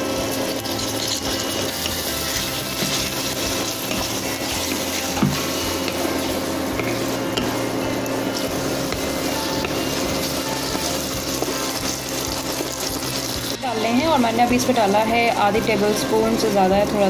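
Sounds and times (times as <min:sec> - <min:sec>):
vegetables sizzling in hot oil: 0:00.0 - 0:17.0
wooden spatula stirring: 0:00.6 - 0:14.4.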